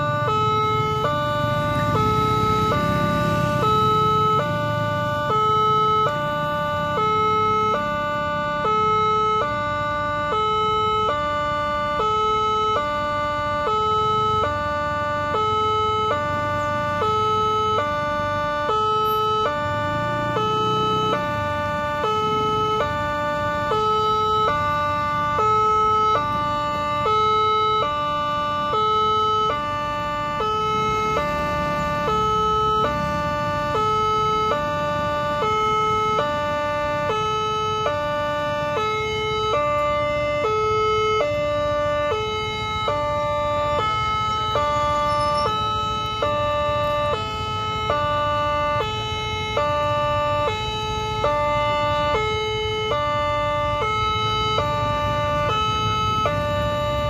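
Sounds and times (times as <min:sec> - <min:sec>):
level crossing two-tone alarm: 0:00.0 - 0:57.0.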